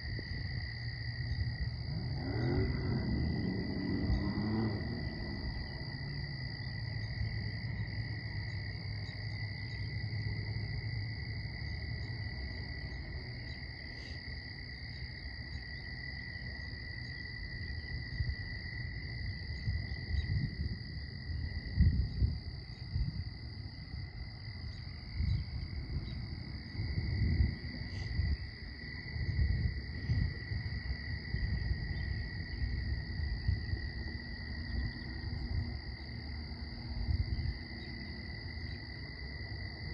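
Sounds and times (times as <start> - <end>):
wind buffeting microphone: 0.0 - 14.6, 15.2 - 39.9
frogs and insects calling: 0.0 - 39.9.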